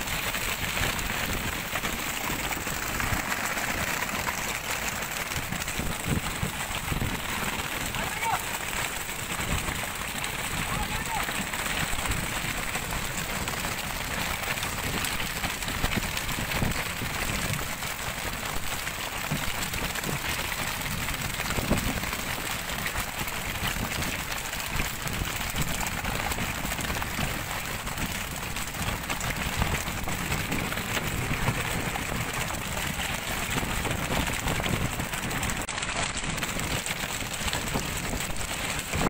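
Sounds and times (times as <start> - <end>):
light knocks and patters: 0.0 - 39.0
sea: 0.0 - 39.0
wind: 0.0 - 39.0.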